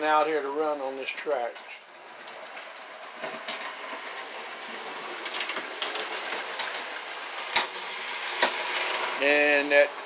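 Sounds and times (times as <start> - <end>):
model train whirring on rails: 0.0 - 10.0.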